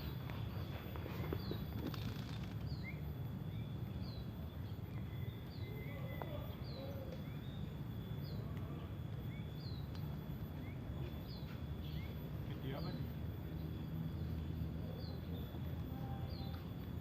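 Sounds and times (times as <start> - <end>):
bird chirping: 0.0 - 17.0
low rumbling background: 0.0 - 17.0.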